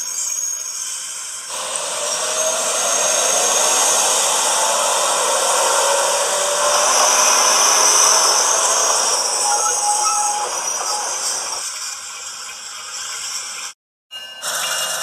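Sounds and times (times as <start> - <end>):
model train whirring on rails: 0.0 - 15.0.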